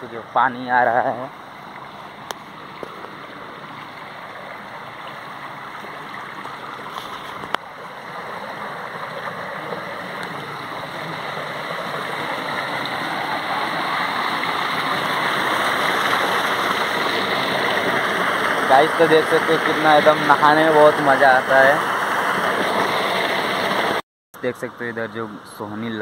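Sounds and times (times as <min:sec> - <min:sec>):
water gushing into tank: 0:01.6 - 0:24.0.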